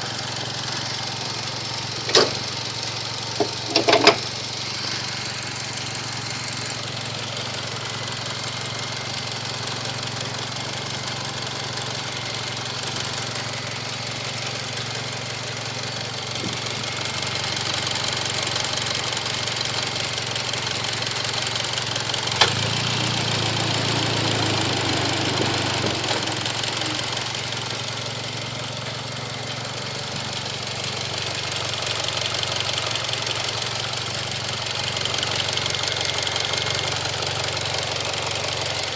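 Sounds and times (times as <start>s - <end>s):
car engine idling with ticking: 0.0s - 38.9s.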